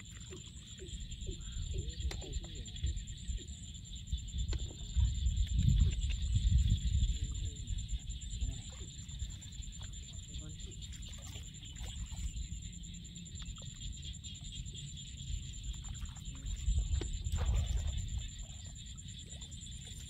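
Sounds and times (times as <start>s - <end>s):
low sloshing water: 0.0s - 20.0s.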